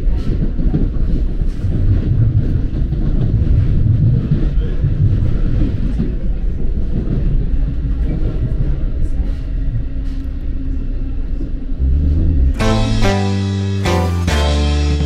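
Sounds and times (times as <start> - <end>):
train rumble from inside car: 0.0 - 12.6.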